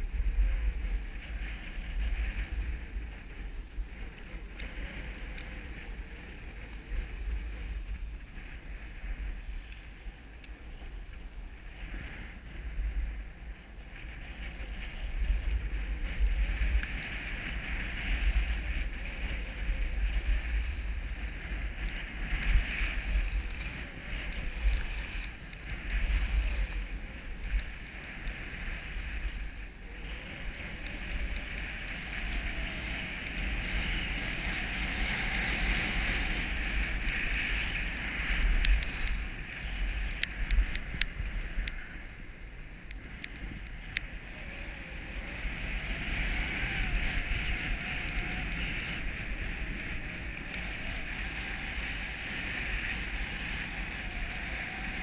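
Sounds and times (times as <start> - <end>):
skis scraping over snow: 0.0 - 55.0
wind buffeting microphone: 0.0 - 55.0.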